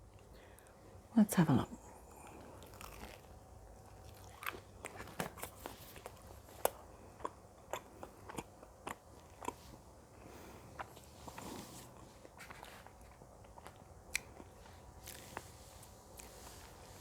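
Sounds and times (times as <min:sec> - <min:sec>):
chewing bread close up: 0:02.1 - 0:17.0.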